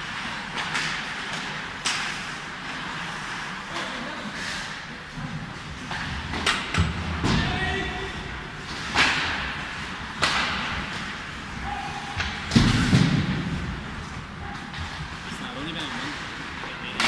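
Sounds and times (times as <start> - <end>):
hockey sticks and puck cracking: 0.0 - 17.0.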